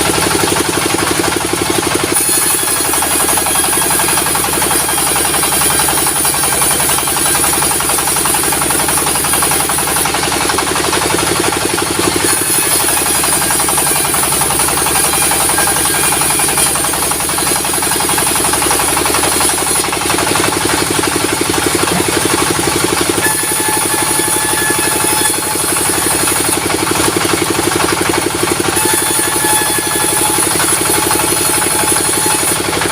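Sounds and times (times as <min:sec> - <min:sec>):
sawmill diesel engine knocking: 0:00.0 - 0:32.9.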